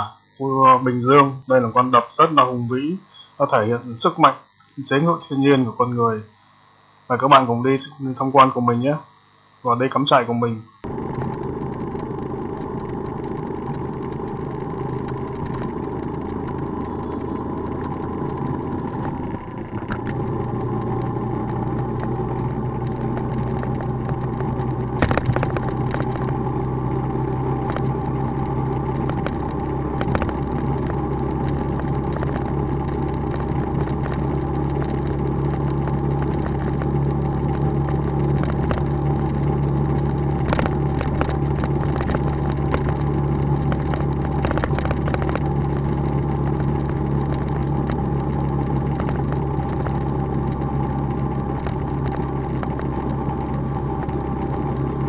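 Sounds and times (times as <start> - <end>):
motorbike engine running: 10.8 - 55.0
road noise: 10.8 - 55.0.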